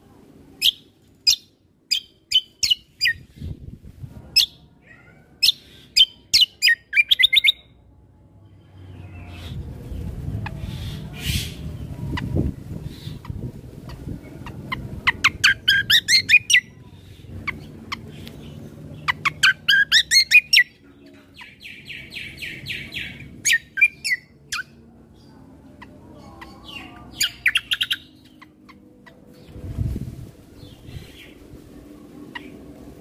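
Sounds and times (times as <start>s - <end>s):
faint low rumble: 0.0s - 6.3s, 7.5s - 33.0s
songbird chirping: 0.4s - 3.6s, 4.4s - 33.0s.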